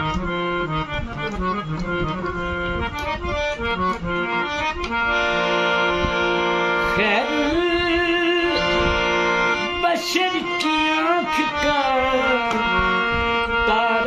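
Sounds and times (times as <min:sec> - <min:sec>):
harmonium playing: 0:00.0 - 0:14.0.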